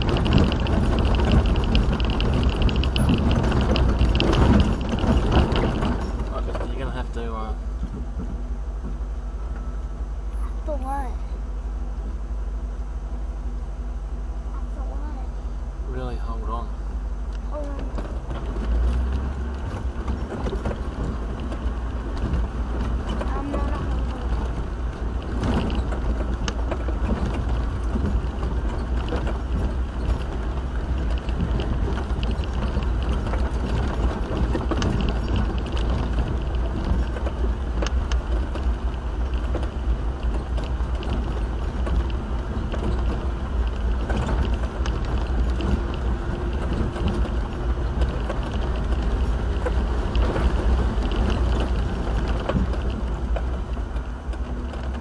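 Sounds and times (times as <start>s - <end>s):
rattles and knocks in cab: 0.0s - 9.8s, 17.3s - 55.0s
vehicle engine and tyres rumbling: 0.0s - 55.0s.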